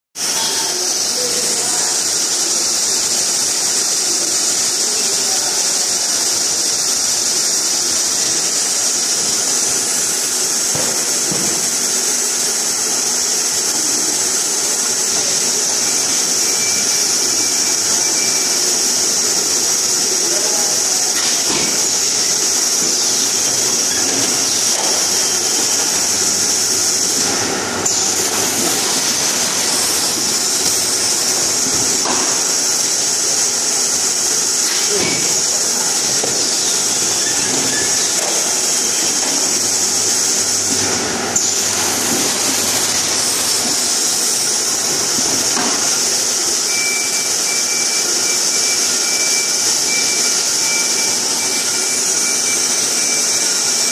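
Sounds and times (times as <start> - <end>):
machinery hissing: 0.2 - 53.9.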